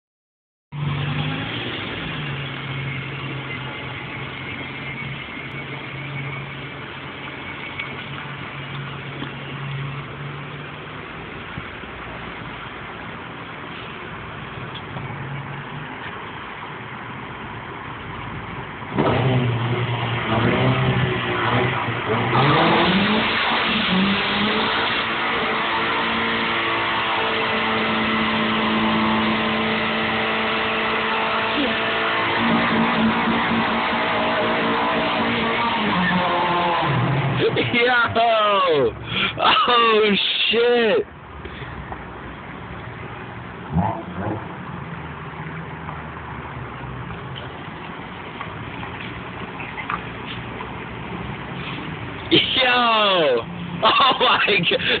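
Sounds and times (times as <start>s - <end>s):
car engine idling and revving: 0.7s - 39.8s, 41.0s - 55.0s.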